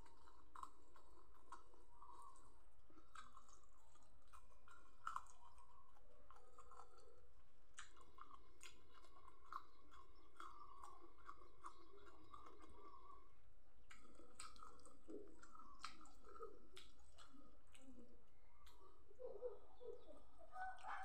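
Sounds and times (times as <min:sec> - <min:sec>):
person chewing: 0:00.0 - 0:19.2.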